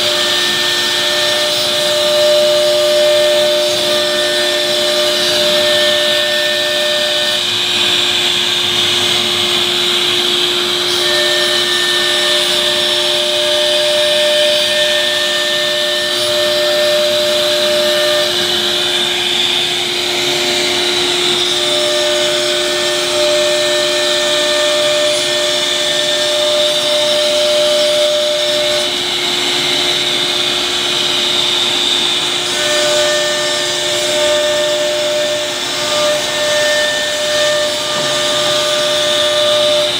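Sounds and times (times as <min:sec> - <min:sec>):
router machine humming: 0:00.0 - 0:39.9.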